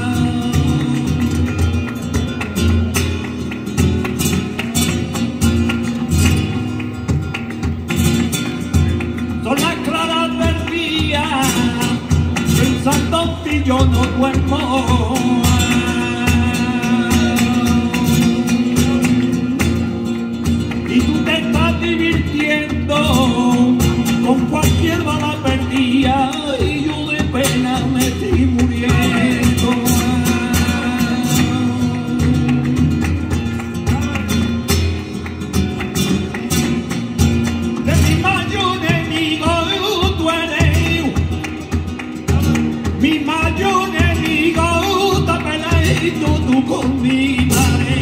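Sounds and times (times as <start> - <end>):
flamenco guitar: 0.0 - 48.0
man singing flamenco: 0.0 - 48.0
rhythmic handclapping: 0.0 - 48.0.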